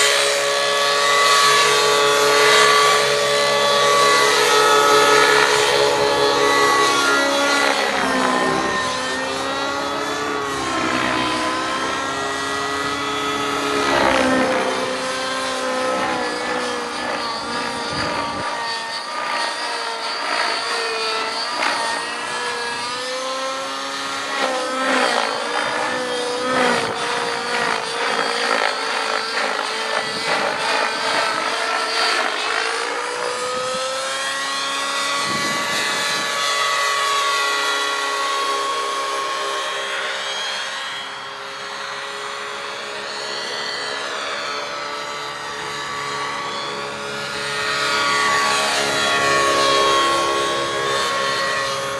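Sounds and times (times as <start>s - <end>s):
model helicopter rotor whine: 0.0s - 51.9s.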